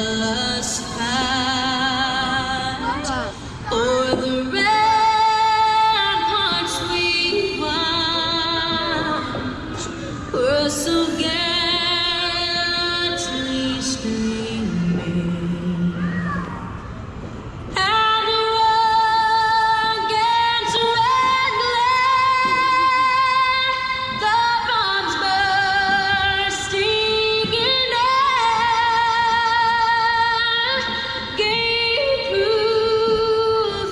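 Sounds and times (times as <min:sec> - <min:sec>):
woman singing an anthem: 0:00.0 - 0:16.5, 0:17.7 - 0:33.9.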